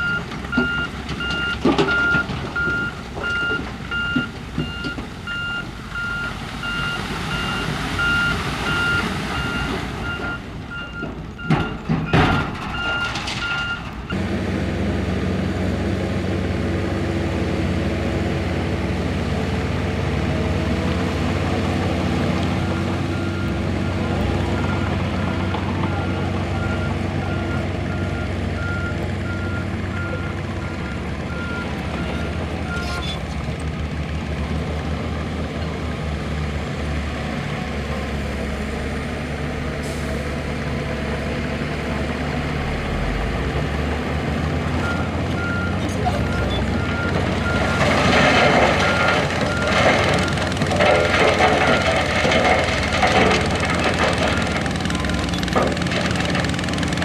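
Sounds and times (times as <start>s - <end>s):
heavy diesel machines running: 0.0s - 57.0s.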